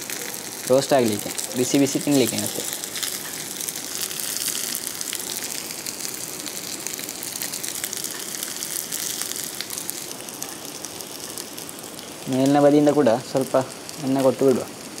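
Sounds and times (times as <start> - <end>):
crackles and pops: 0.0 - 15.0
food sizzling in hot oil: 0.0 - 15.0.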